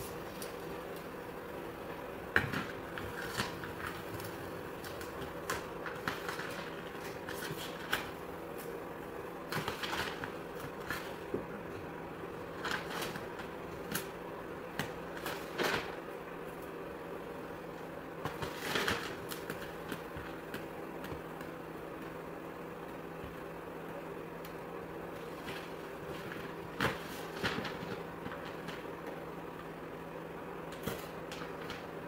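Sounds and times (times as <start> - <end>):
steady background hum: 0.0 - 32.0
paper rustling and crackling: 2.3 - 16.1, 17.6 - 23.5, 24.9 - 30.0, 30.7 - 32.0.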